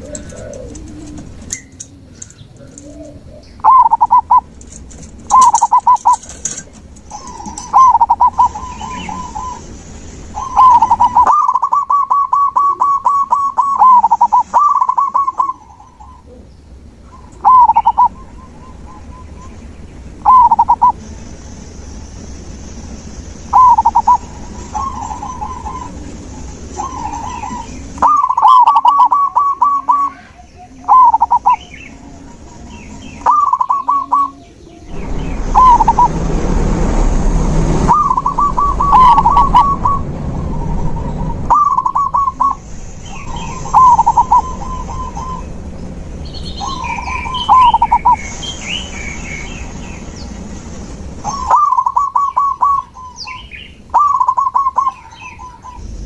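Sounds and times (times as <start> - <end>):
doves cooing: 0.0 - 21.2, 23.5 - 37.0, 37.8 - 48.9, 51.2 - 56.0
small birds chirping: 0.0 - 36.2, 37.9 - 56.0
rushing noise: 3.6 - 30.1, 30.8 - 56.0.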